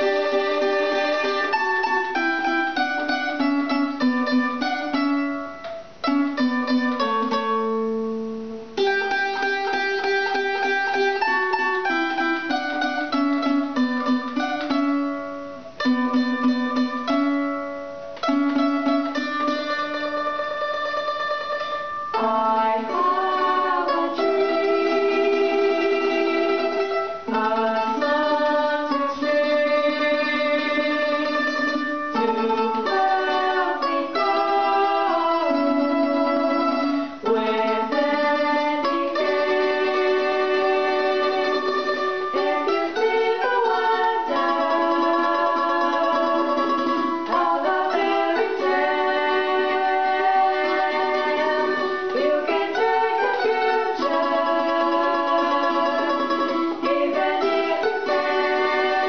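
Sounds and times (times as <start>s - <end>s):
person singing: 0.0s - 8.0s, 18.2s - 59.0s
small plucked string instrument: 0.0s - 59.0s.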